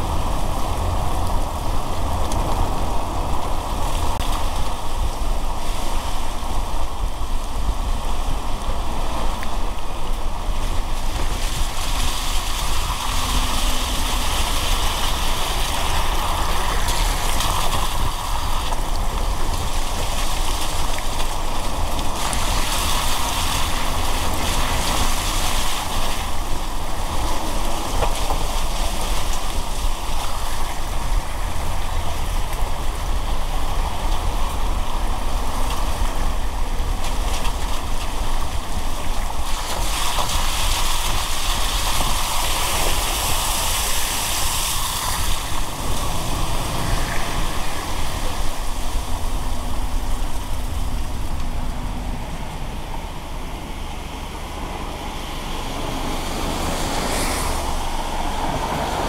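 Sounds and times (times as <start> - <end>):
falling rain: 0.0 - 59.0
low road rumble: 0.0 - 59.0
tyres hissing on wet road: 0.0 - 59.0.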